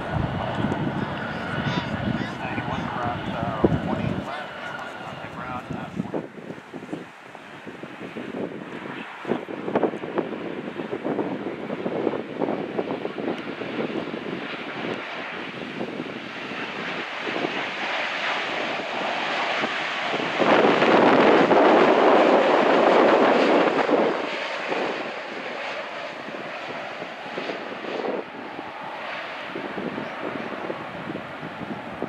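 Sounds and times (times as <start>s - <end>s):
jet airliner rushing overhead: 0.0s - 32.0s.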